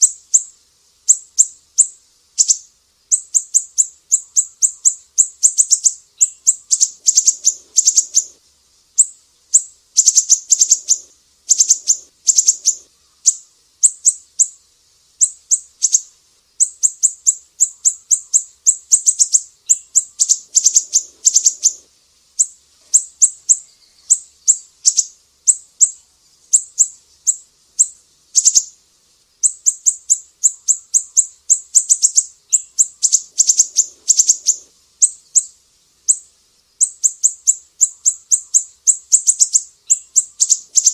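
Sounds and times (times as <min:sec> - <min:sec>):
bird chirping rapidly: 0:00.0 - 0:08.4, 0:09.0 - 0:14.6, 0:15.2 - 0:28.8, 0:29.4 - 0:40.9.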